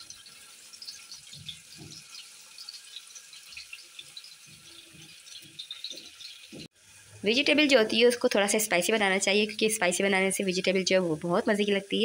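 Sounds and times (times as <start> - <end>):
onions frying in oil: 0.0 - 12.0.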